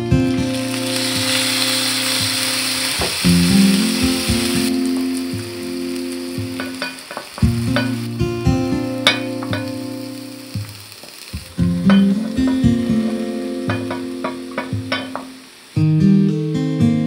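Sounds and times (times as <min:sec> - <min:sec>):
soft guitar music: 0:00.0 - 0:17.0
vegetables sizzling in a skillet: 0:00.0 - 0:17.0.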